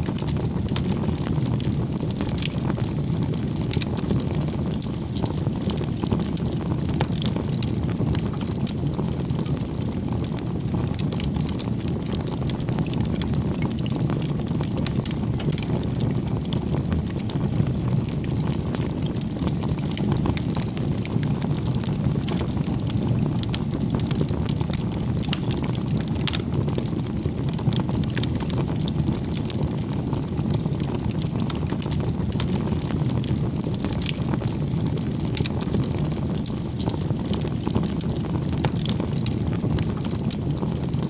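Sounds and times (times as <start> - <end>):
bonfire crackling and popping: 0.0 - 41.0.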